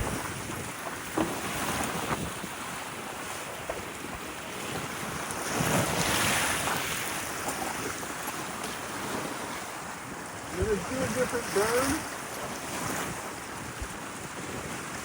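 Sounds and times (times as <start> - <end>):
water rushing along hull: 0.0 - 15.0
wind blowing over microphone: 0.0 - 15.0.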